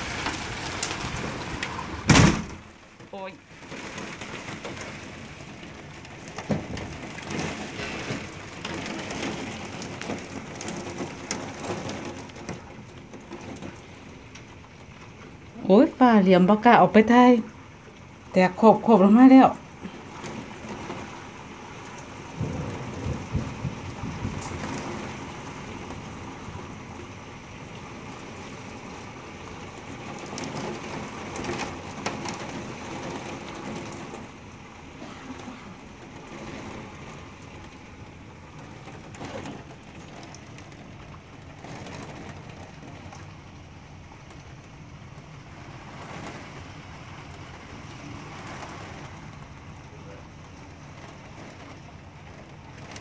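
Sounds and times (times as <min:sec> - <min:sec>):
hailstones knocking: 0:00.0 - 0:17.1, 0:17.9 - 0:53.0
heavy rain and hail on window: 0:00.0 - 0:53.0
low rumble of thunder: 0:00.0 - 0:53.0.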